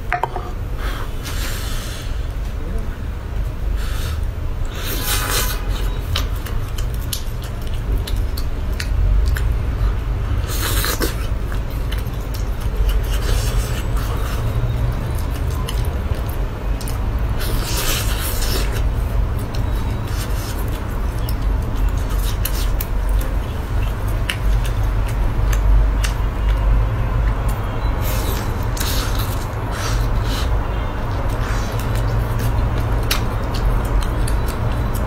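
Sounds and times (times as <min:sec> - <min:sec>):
wet chewing and squishing: 0:04.6 - 0:35.0.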